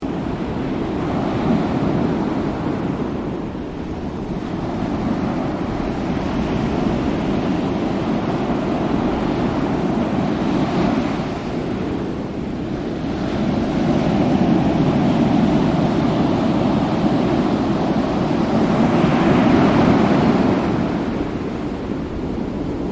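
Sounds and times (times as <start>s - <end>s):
ocean waves breaking: 0.0s - 22.9s.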